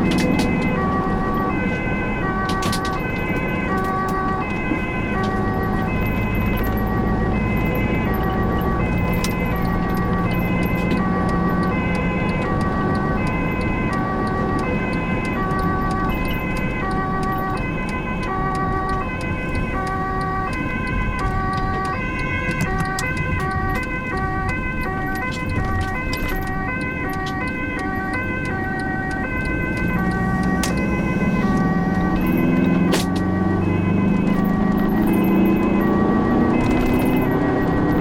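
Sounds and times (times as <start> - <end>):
ambulance two-tone siren: 0.0 - 38.0
engine and road rumble: 0.0 - 38.0.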